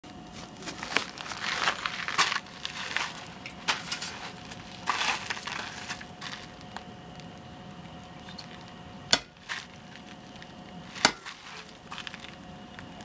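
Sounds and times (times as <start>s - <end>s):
footsteps on gravel: 0.2s - 13.0s.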